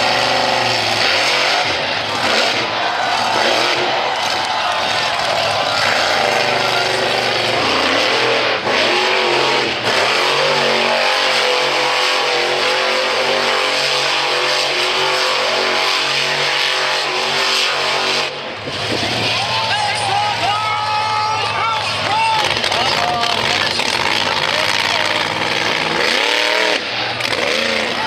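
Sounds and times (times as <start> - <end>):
truck engine at high revs: 0.0 - 28.0.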